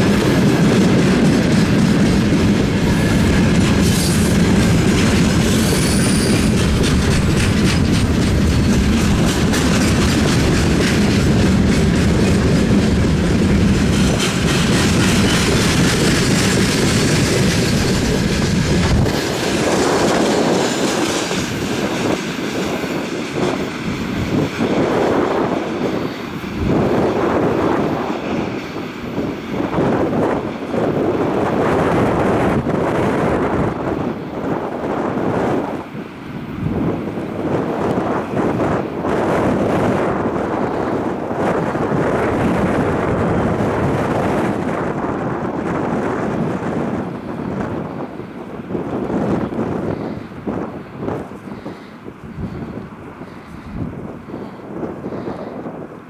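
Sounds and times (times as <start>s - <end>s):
heavy low train rumble: 0.0s - 56.0s
train wheels clickety-clack: 0.0s - 56.0s
wind gusting on microphone: 0.0s - 56.0s.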